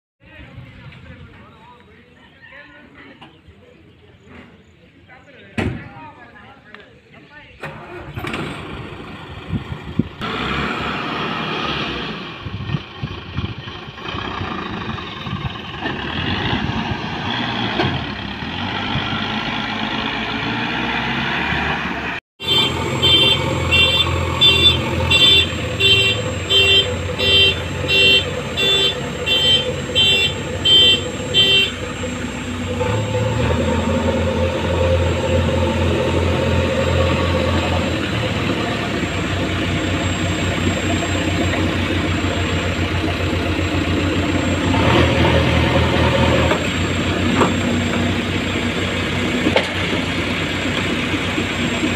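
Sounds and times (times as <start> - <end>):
diesel machinery running: 7.6 - 51.9.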